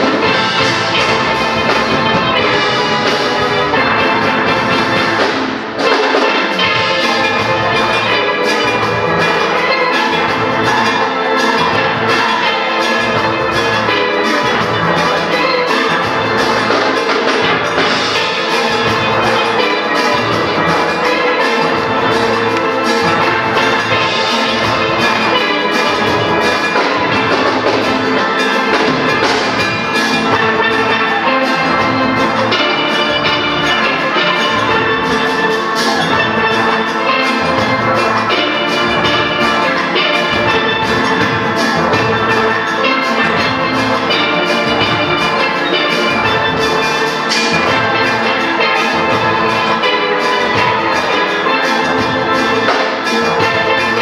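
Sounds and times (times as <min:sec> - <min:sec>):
steel band playing: 0:00.0 - 0:54.0.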